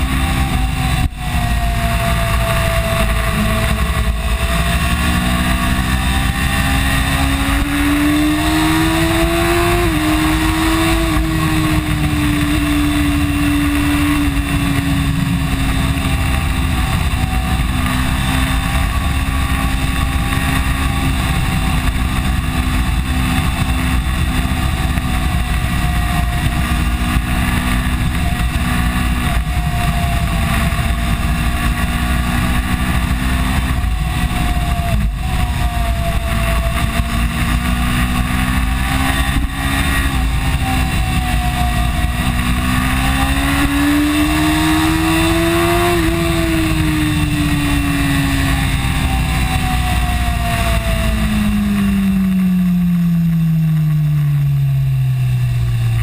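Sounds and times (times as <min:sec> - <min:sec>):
motorcycle engine running hard: 0:00.0 - 0:56.0
wind rush: 0:00.0 - 0:56.0.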